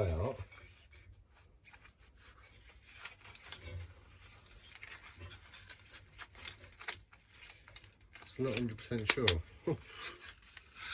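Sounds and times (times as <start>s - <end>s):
hands rubbing a spring: 0.0s - 10.9s.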